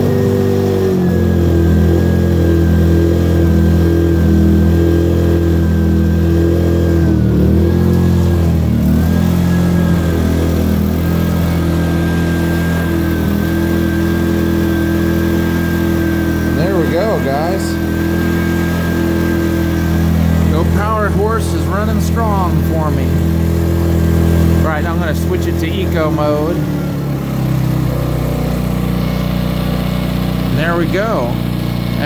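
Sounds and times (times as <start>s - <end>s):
generator engine running: 0.0s - 32.0s.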